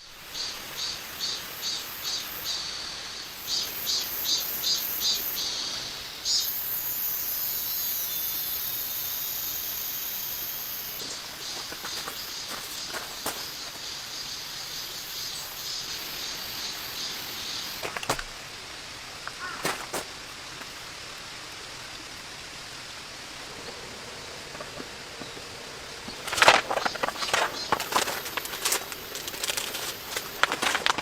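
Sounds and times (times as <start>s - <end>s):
rain hissing: 0.0s - 31.0s.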